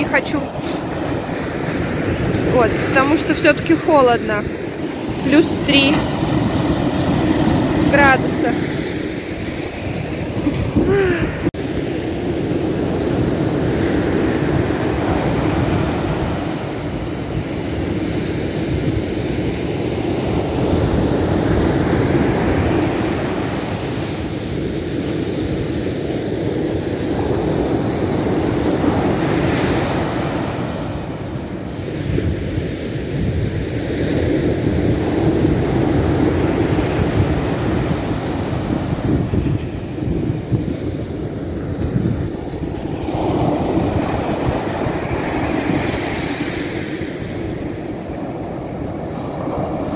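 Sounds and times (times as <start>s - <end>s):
surf washing onto shore: 0.0s - 49.9s
wind buffeting microphone: 0.0s - 49.9s.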